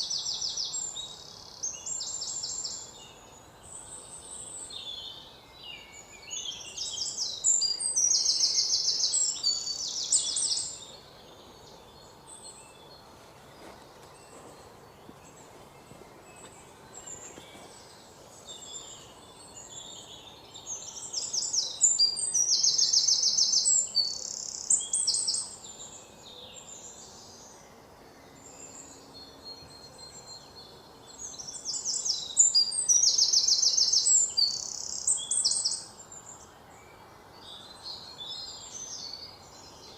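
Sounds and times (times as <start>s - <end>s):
songbird trills and chirps: 0.0s - 39.9s.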